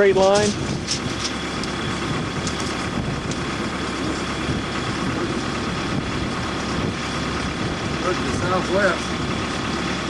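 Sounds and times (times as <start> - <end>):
large engine idling: 0.0 - 10.0.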